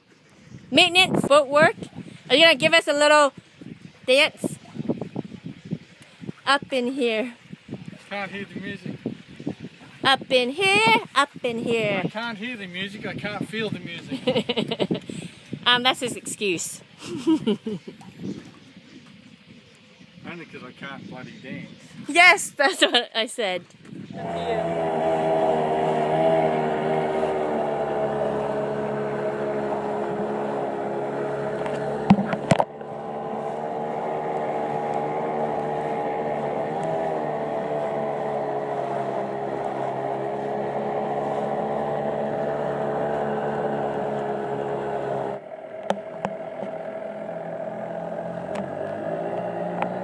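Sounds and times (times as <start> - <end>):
outboard motor running: 0.0 - 16.8, 23.8 - 50.0.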